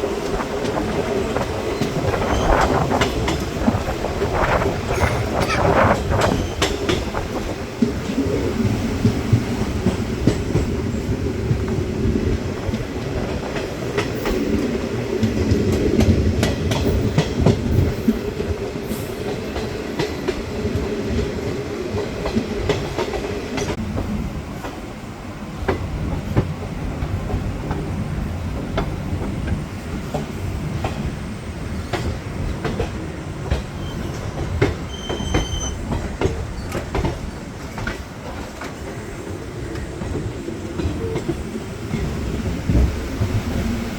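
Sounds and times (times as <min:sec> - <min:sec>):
train rumble: 0:00.0 - 0:43.9.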